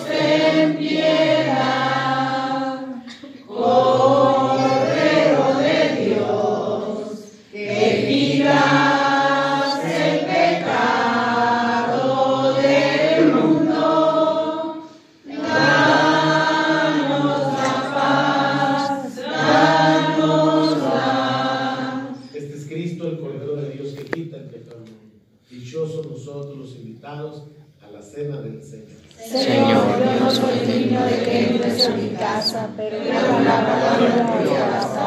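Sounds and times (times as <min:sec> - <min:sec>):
voices singing a slow chant: 0:00.0 - 0:22.4, 0:29.2 - 0:35.0.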